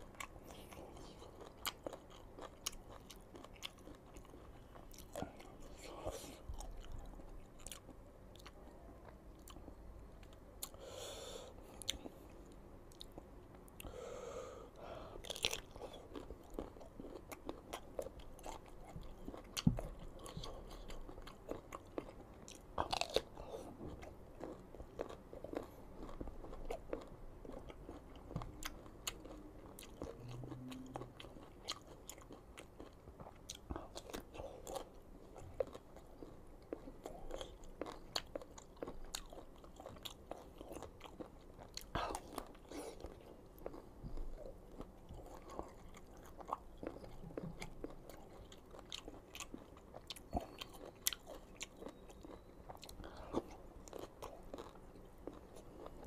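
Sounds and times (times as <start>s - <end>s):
crunchy chewing of raw mango: 0.0s - 56.0s.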